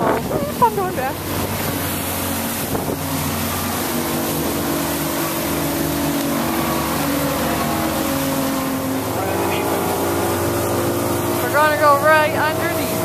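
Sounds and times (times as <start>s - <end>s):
boat engine running: 0.0s - 13.0s
wind and water hiss on microphone: 0.0s - 13.0s.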